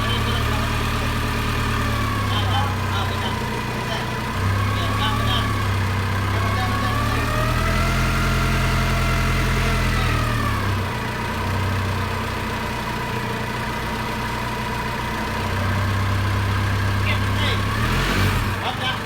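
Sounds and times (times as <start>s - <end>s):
forklift engine idling: 0.0s - 19.0s.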